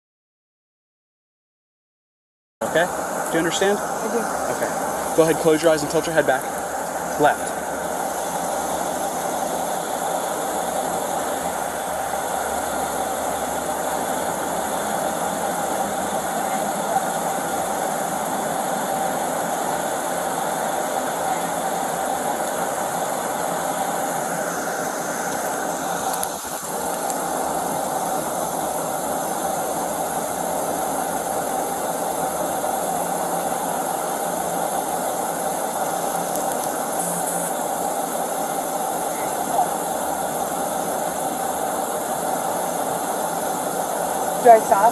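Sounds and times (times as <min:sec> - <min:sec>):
car engine idling: 0:02.6 - 0:44.9.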